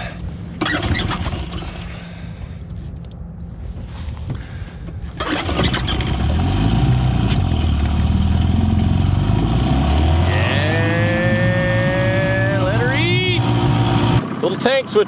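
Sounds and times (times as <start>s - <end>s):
outboard motor starting and running: 0.0s - 2.5s, 4.4s - 15.0s.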